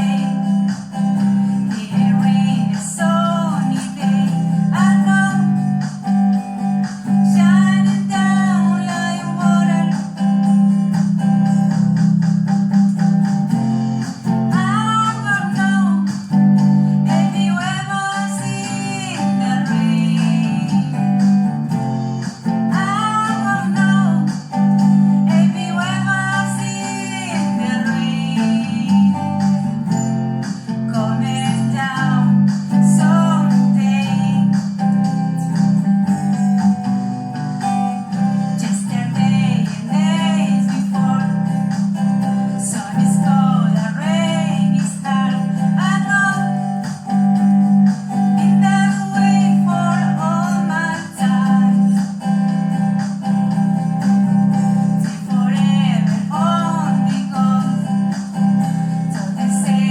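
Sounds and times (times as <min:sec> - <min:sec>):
person singing: 0:00.0 - 0:59.9
strummed guitar: 0:00.0 - 0:59.9.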